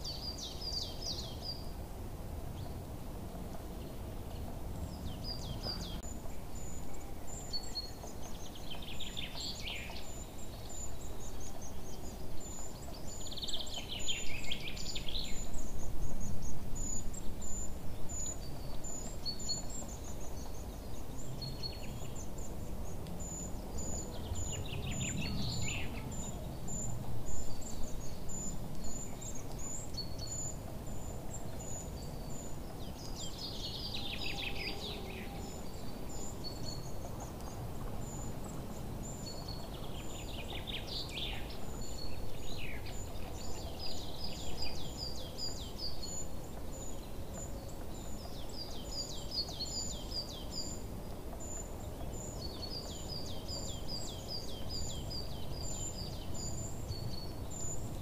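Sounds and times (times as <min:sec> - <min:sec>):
low background noise: 0:00.0 - 0:58.0
birds chirping: 0:03.6 - 0:58.0.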